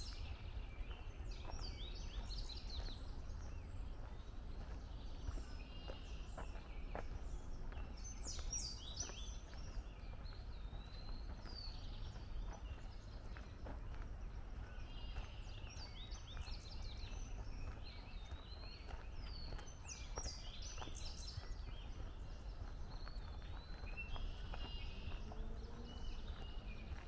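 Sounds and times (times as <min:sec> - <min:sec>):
faint footsteps on a trail: 0:00.0 - 0:27.0
songbirds singing and chirping: 0:00.0 - 0:27.0.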